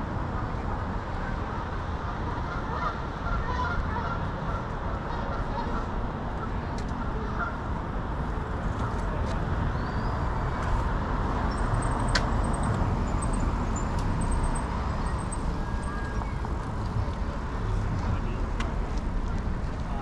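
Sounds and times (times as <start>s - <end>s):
passing cars traffic noise: 0.0s - 20.0s.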